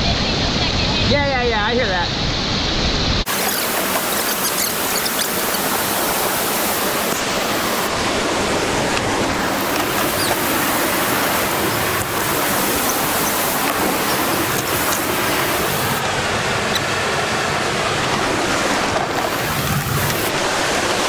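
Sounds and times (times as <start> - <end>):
whitewater rapid rushing: 3.3 - 21.0.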